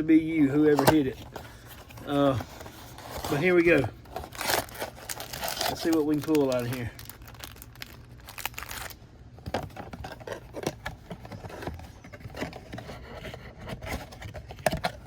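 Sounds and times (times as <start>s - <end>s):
cardboard box and packs handled: 0.2s - 15.0s.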